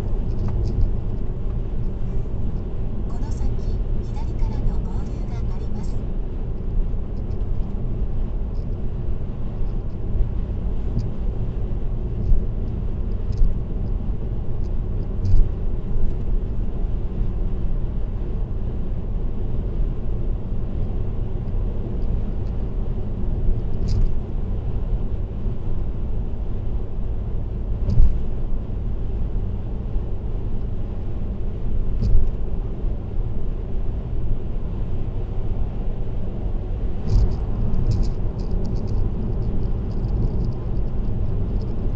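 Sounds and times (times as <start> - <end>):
car road and tyre noise: 0.0 - 41.9.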